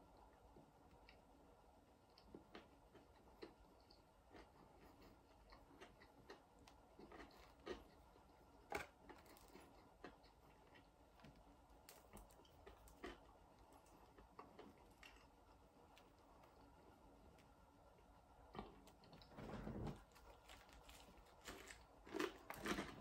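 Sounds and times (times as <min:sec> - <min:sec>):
chewing crispy food: 0:00.2 - 0:19.3, 0:20.0 - 0:23.0.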